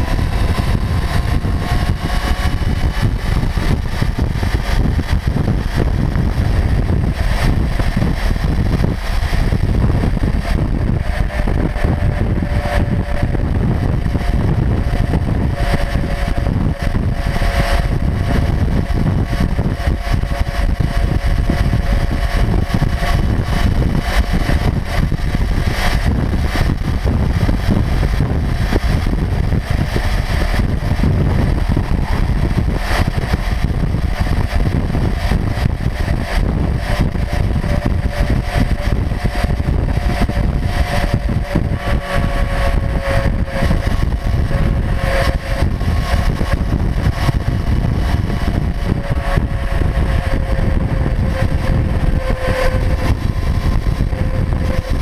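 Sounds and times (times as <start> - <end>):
faint steady engine tone: 0.0 - 55.0
road and tyre rumble: 0.0 - 55.0
wind buffeting microphone: 0.0 - 55.0.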